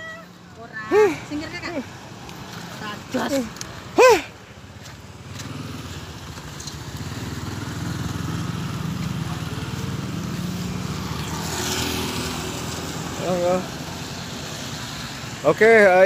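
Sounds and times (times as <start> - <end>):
tyres hissing on wet road: 0.8 - 16.0.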